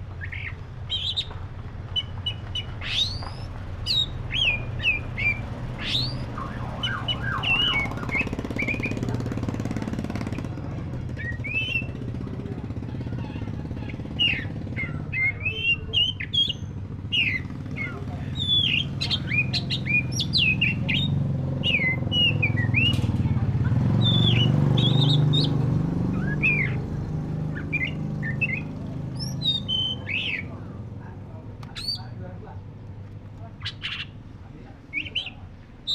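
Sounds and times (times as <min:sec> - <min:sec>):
songbird whistling and chirping: 0:00.1 - 0:09.2, 0:11.1 - 0:12.1, 0:13.0 - 0:23.1, 0:24.0 - 0:30.7, 0:31.7 - 0:32.1, 0:33.6 - 0:34.2, 0:34.9 - 0:35.9.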